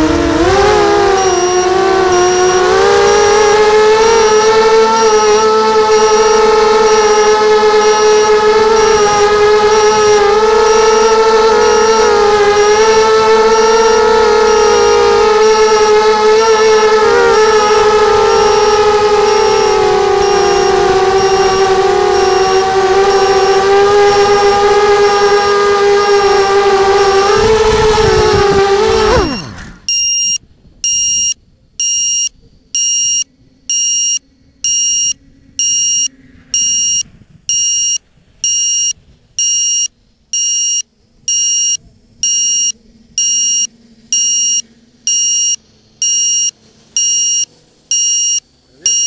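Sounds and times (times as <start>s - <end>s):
quadcopter motors whining: 0.0s - 49.0s
high electronic beeps: 0.5s - 27.7s, 29.0s - 49.0s.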